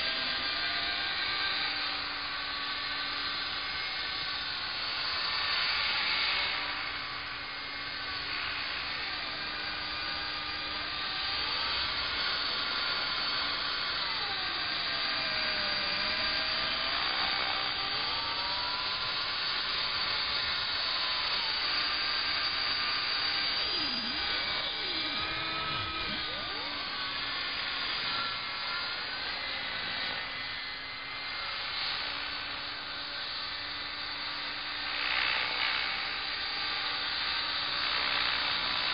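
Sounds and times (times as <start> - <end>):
rc helicopter motor and rotor whine: 0.0 - 38.9.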